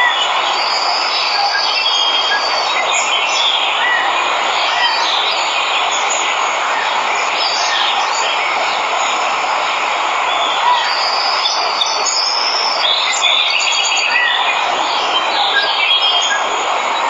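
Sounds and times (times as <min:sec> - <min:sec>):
birds chirping: 0:00.0 - 0:17.0
waterfall rushing: 0:00.0 - 0:17.0.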